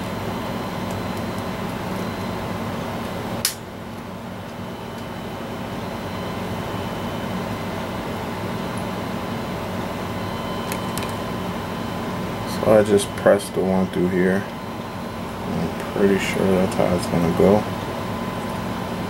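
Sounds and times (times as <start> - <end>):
fan hum: 0.0 - 19.0.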